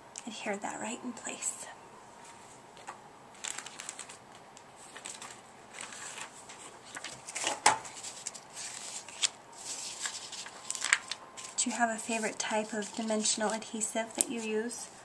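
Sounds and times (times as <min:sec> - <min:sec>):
paper rustling: 0:02.2 - 0:15.0.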